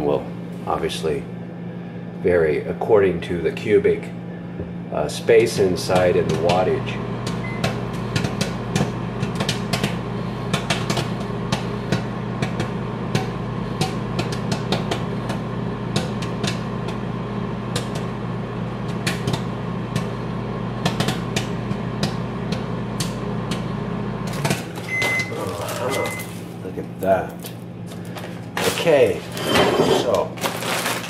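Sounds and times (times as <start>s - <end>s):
microwave oven humming: 0.0s - 31.0s
popcorn popping: 5.3s - 29.4s, 30.0s - 31.0s.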